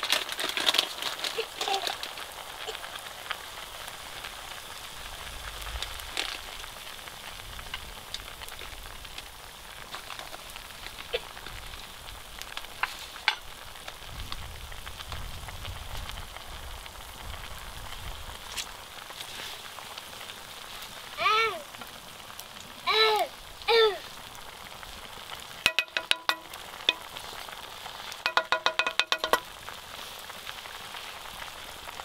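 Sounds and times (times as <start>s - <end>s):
fat popping and crackling: 0.0s - 32.0s
meat sizzling in fat: 0.0s - 32.0s.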